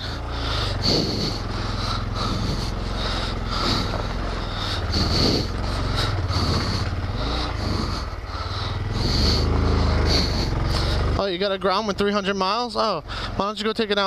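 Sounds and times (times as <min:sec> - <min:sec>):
rider breathing: 0:00.0 - 0:11.2, 0:13.0 - 0:13.4
motorcycle engine revving: 0:00.0 - 0:14.0.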